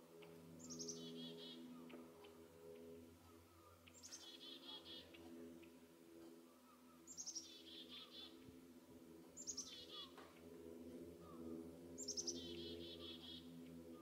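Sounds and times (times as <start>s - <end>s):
faint low hum: 0.0s - 14.0s
songbird singing: 0.2s - 8.4s, 9.3s - 10.4s, 11.2s - 14.0s.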